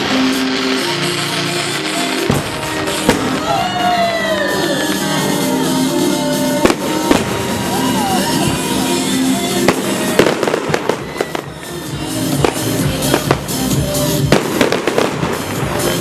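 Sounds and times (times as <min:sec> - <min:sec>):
fireworks bangs: 0:00.0 - 0:16.0
fireworks crackling: 0:00.0 - 0:16.0
music with sustained notes: 0:00.0 - 0:16.0.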